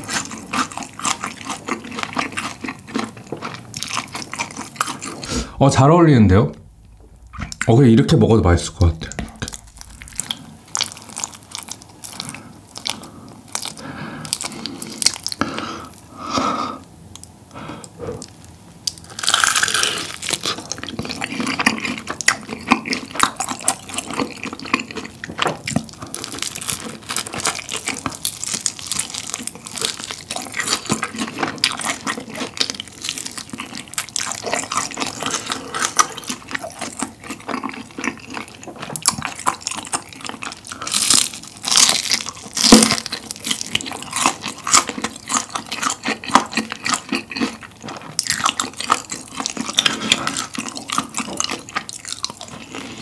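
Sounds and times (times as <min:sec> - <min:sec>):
crunching and chewing food: 0:00.0 - 0:05.6, 0:08.8 - 0:53.0.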